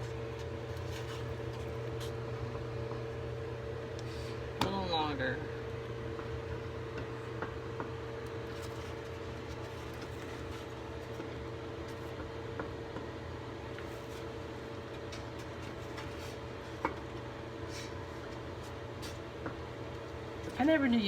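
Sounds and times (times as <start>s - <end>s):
appliance hum: 0.0s - 21.0s.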